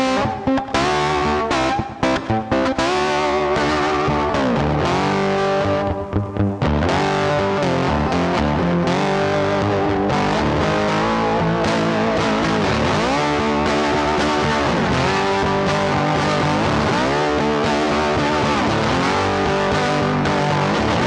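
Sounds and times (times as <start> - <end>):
bass: 0.0 - 21.0
distorted electric guitar rock: 0.0 - 21.0.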